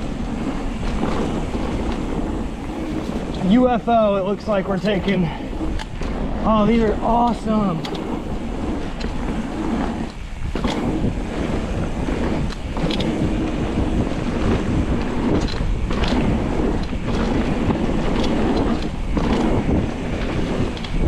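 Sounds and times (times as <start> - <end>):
bike rattling: 0.0 - 21.0
wind rush over microphone: 0.0 - 21.0.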